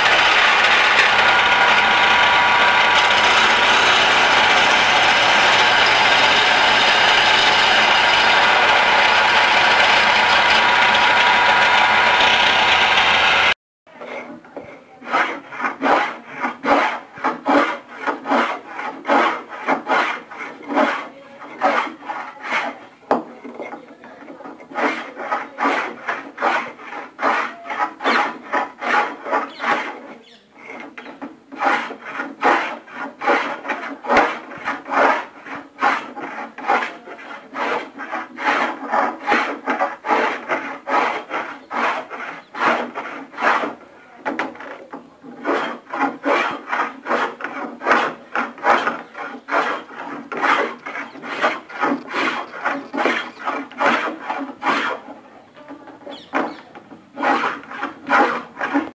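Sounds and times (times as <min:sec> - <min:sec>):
hand plane shaving wood: 0:00.0 - 0:59.0.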